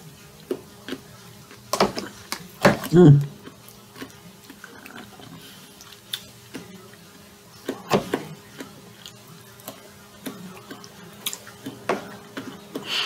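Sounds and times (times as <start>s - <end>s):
chewing: 0.3s - 13.0s.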